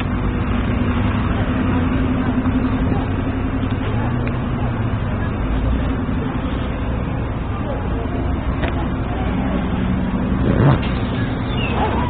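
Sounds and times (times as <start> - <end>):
road noise rumble: 0.0 - 12.0
vehicle engine humming: 0.0 - 12.0.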